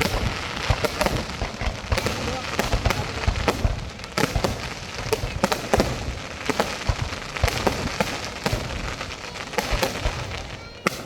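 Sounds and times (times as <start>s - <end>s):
fireworks bangs and pops: 0.0s - 11.0s
fireworks crackling: 0.0s - 11.0s.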